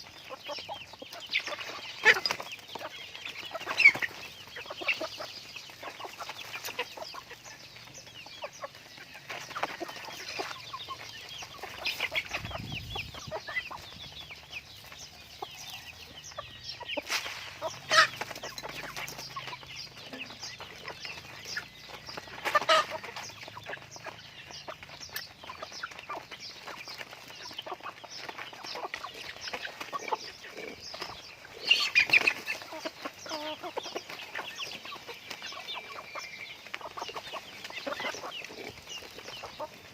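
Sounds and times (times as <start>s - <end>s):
chickens clucking and chirping: 0.0s - 39.9s.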